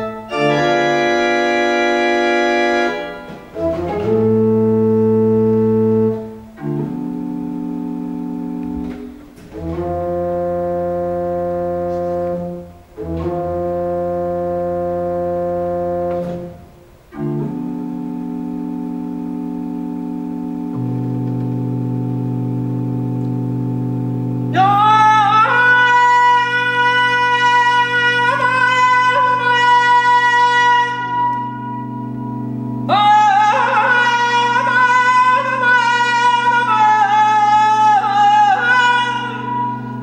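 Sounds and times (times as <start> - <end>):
pipe organ chords: 0.0 - 40.0.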